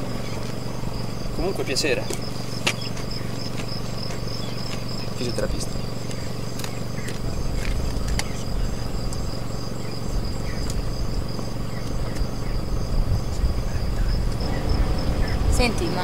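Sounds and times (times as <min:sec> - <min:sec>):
crickets chirping: 0:00.0 - 0:16.0
low steady rumble: 0:00.0 - 0:16.0.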